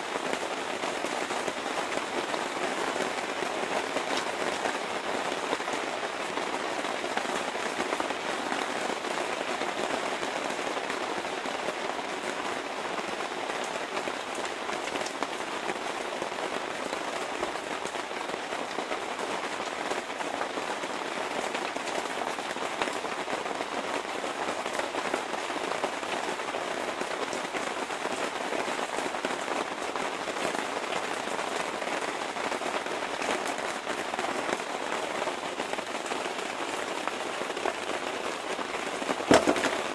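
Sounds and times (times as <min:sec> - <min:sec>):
rain on water and wooden deck: 0:00.0 - 0:39.9.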